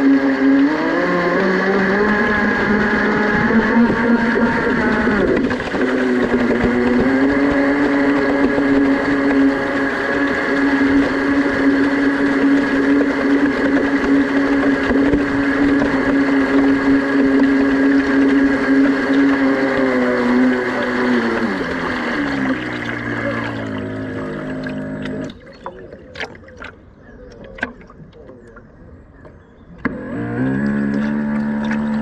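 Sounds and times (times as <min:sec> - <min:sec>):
water rushing past hull: 0:00.0 - 0:28.6, 0:30.0 - 0:32.0
model boat motor running: 0:00.0 - 0:28.8, 0:29.6 - 0:32.0.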